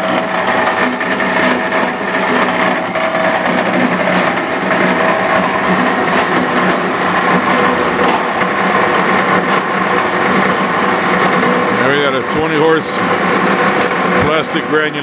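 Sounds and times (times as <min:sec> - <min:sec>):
granulator mechanical whir: 0:00.0 - 0:15.0.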